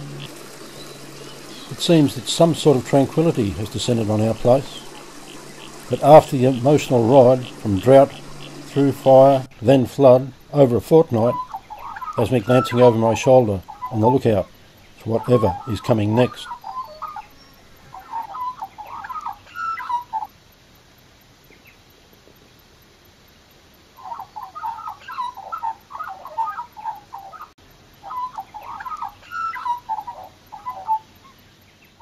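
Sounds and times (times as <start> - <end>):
birds chattering: 0.0 - 20.3, 24.0 - 32.0.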